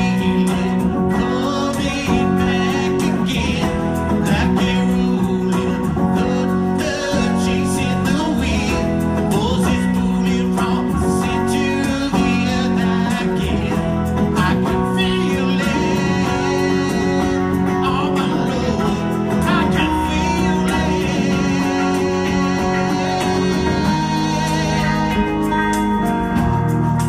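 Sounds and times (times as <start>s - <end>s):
man singing: 0.0s - 25.8s
strummed acoustic guitar: 0.0s - 27.0s.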